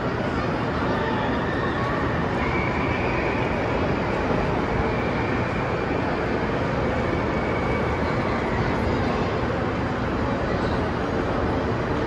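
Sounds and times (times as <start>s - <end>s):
indoor amusement hall din: 0.0s - 12.0s.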